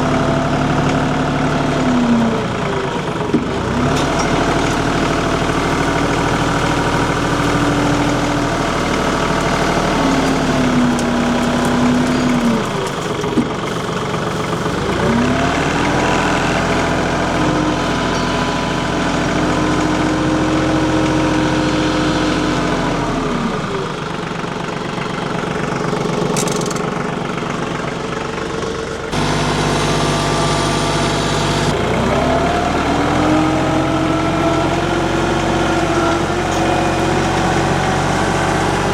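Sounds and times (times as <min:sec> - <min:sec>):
tractor engine revving: 0:00.0 - 0:38.9.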